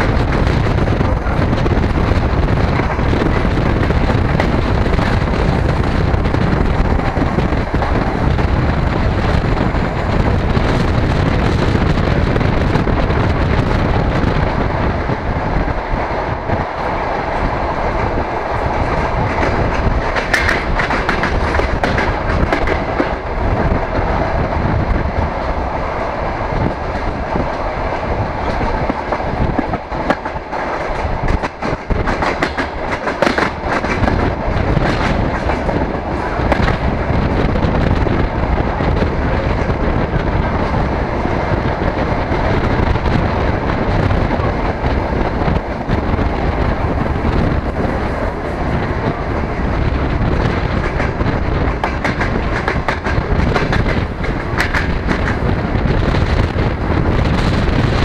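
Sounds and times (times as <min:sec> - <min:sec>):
rushing air: 0:00.0 - 0:58.0
train wheels rumbling on rails: 0:00.0 - 0:58.0.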